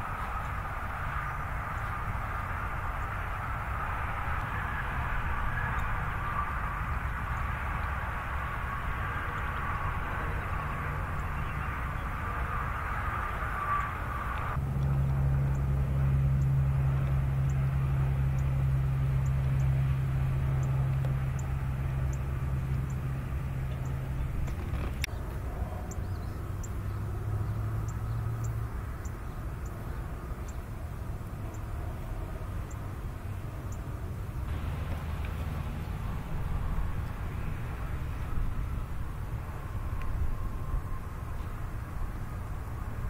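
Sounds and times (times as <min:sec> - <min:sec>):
highway traffic drone: 0:00.0 - 0:43.0.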